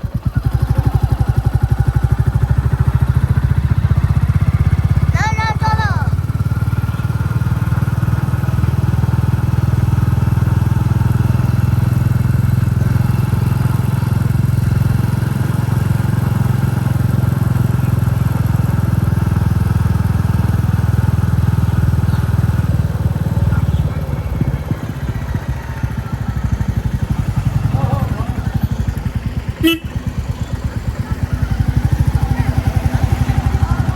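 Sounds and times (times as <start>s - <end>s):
motorcycle engine thumping: 6.4s - 33.9s.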